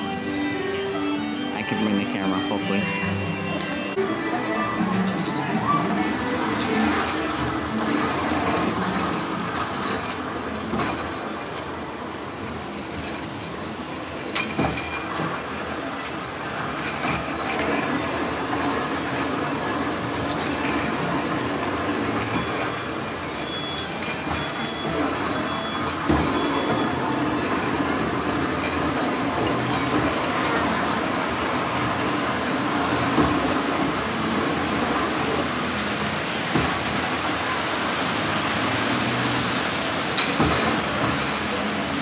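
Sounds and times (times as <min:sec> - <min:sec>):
wheel squeal: 0:04.3 - 0:42.0
train wheels clattering on rails: 0:05.0 - 0:42.0.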